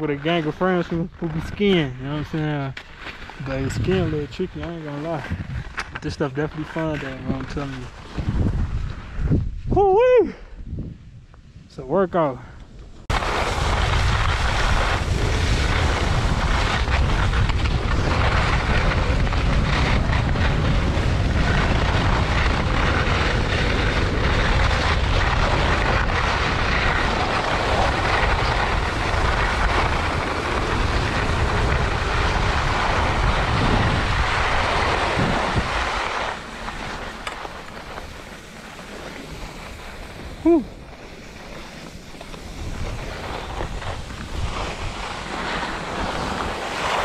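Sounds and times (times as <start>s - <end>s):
skis scraping over packed snow: 0.0s - 10.2s, 13.0s - 47.0s
wind buffeting microphone: 3.4s - 12.0s, 12.7s - 47.0s.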